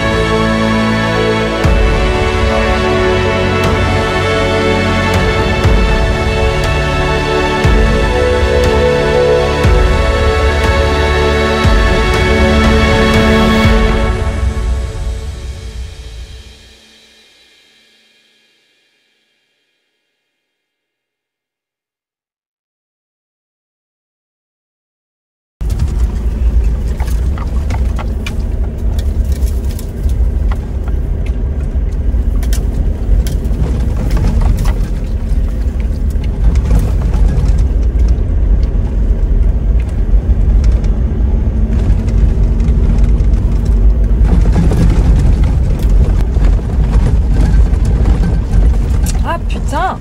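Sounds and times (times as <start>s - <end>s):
engine and tyre rumble: 0.0s - 16.8s, 25.6s - 50.0s.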